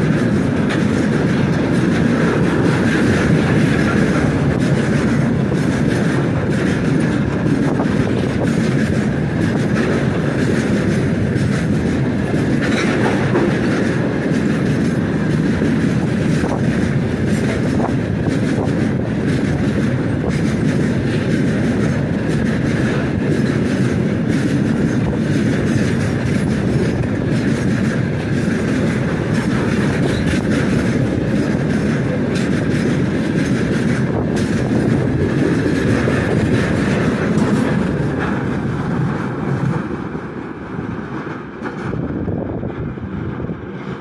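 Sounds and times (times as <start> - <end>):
freight train rumbling past: 0.0 - 44.0
train wheels knocking on rails: 0.0 - 44.0.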